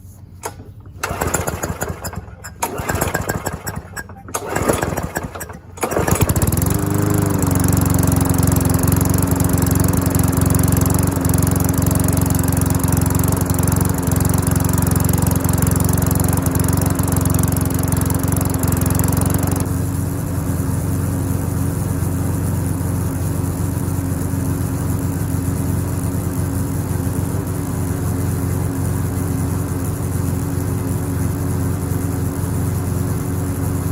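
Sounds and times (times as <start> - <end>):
lawnmower engine running: 0.0 - 33.9.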